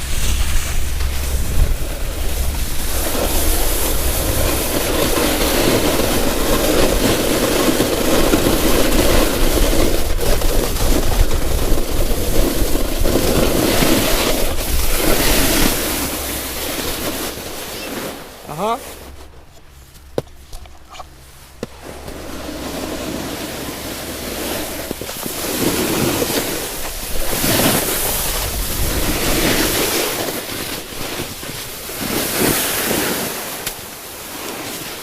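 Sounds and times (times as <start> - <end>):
snowboard scraping over icy snow: 0.0 - 35.0.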